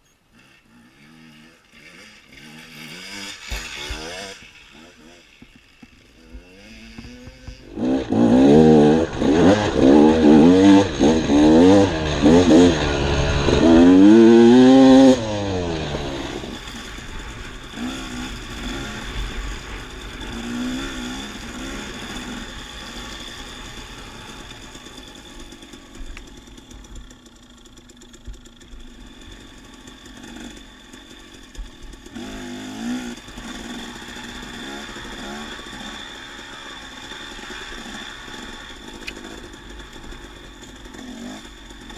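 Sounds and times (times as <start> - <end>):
dirt bike engine revving: 0.3 - 41.9.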